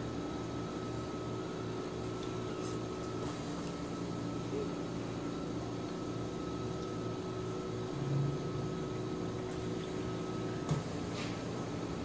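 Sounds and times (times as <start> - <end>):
appliance electrical hum: 0.0 - 12.0.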